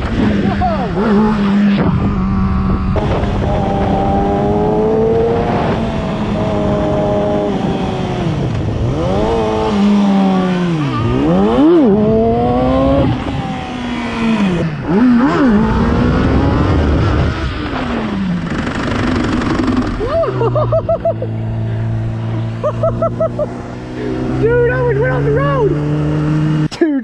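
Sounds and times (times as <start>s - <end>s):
motorcycle engine revving: 0.0s - 26.7s.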